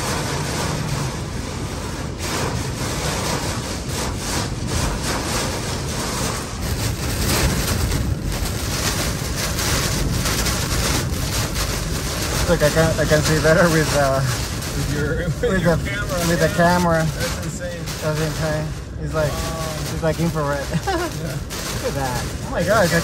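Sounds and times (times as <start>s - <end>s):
driving rain: 0.0s - 23.0s
hurricane wind: 0.0s - 23.0s.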